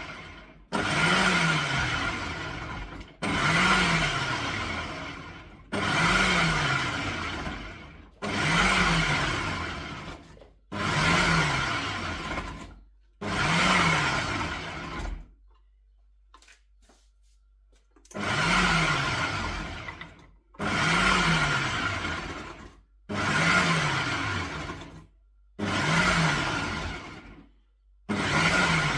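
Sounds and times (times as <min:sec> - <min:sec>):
food processor motor pulsing: 0:00.0 - 0:15.4, 0:18.0 - 0:28.9.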